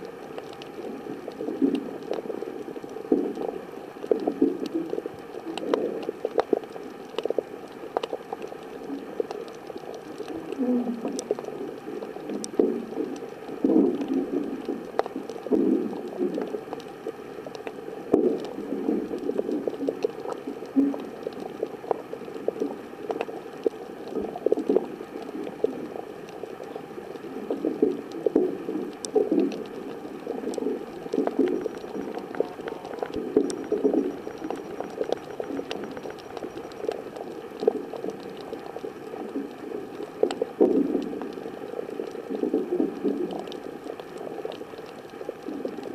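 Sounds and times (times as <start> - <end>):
underwater gurgling and sloshing: 0.0 - 45.9
faint clicks: 0.1 - 45.9.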